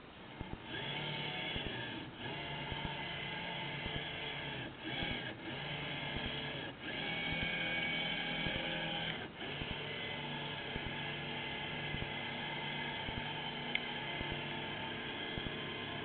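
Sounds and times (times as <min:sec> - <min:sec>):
electric motor whining: 0:00.4 - 0:16.0.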